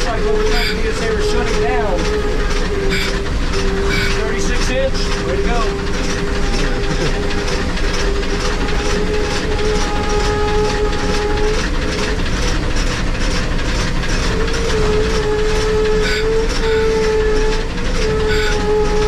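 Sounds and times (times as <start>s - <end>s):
high wavering squeal: 0.0s - 12.9s, 14.0s - 19.0s
steam train rhythmic clatter: 0.0s - 19.0s.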